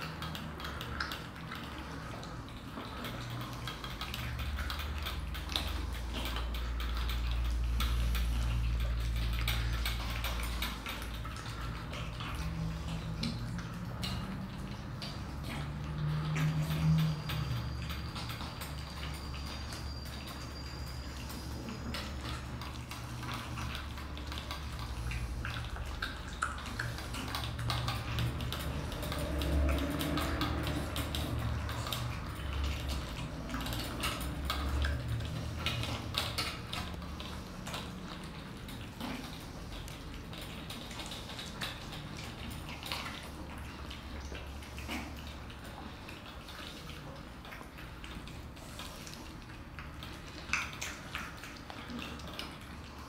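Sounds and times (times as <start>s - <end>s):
cats chewing and lapping: 0.0s - 53.0s.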